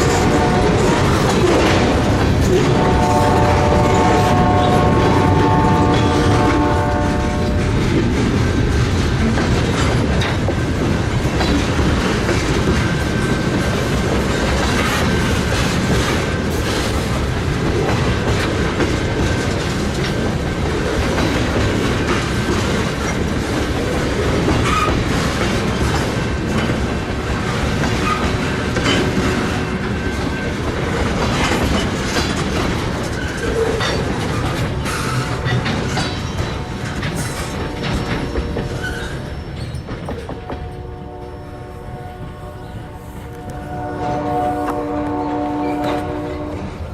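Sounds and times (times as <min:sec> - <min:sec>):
train wheels clattering on rails: 0:00.0 - 0:46.9.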